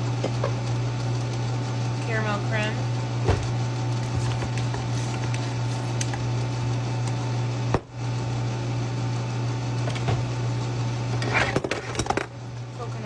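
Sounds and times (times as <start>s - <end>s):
appliance motor hum: 0.0s - 13.0s.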